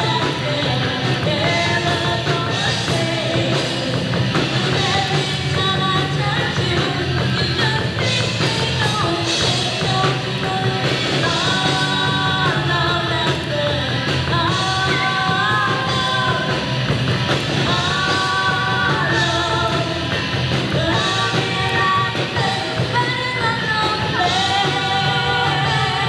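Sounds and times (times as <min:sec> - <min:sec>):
bass guitar: 0:00.0 - 0:26.0
drums: 0:00.0 - 0:26.0
electric guitar: 0:00.0 - 0:26.0
person singing into microphone: 0:00.0 - 0:26.0.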